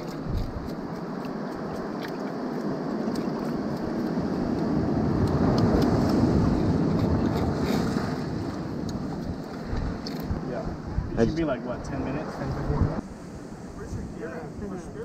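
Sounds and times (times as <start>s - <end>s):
wind at shore: 0.0s - 15.0s.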